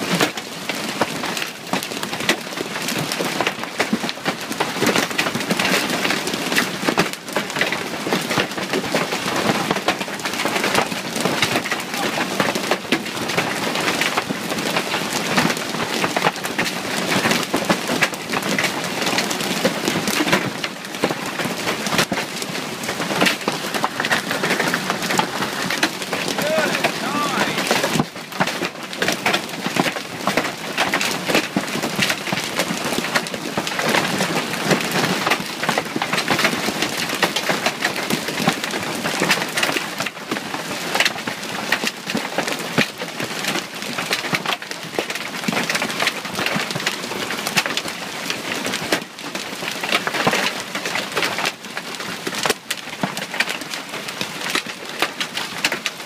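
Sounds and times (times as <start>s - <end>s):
heavy hail pelting: 0.1s - 56.0s.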